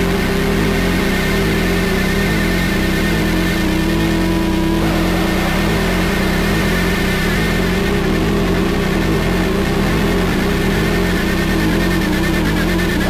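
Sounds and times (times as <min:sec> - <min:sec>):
distorted noise music: 0:00.0 - 0:13.0.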